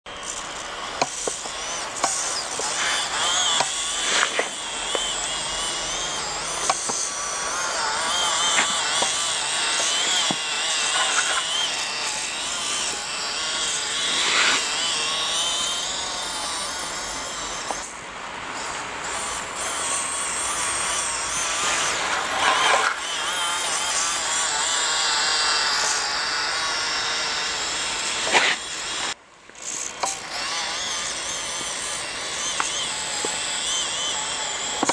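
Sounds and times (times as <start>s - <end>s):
small electric motor whining: 0.1s - 34.9s.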